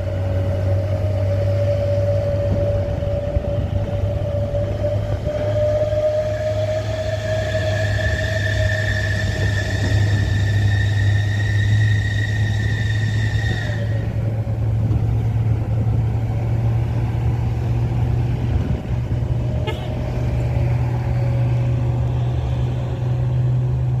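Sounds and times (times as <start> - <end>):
truck engine droning: 0.0 - 24.0.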